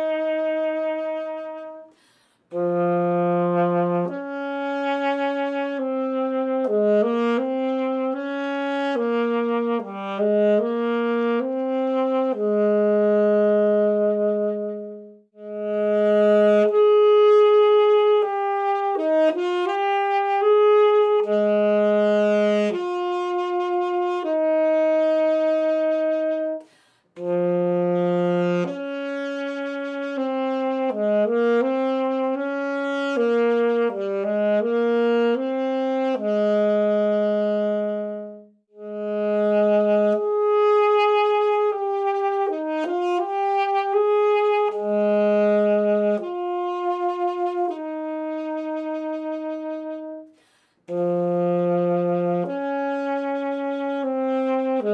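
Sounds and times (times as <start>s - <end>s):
alto saxophone solo melody: 0.0s - 54.9s.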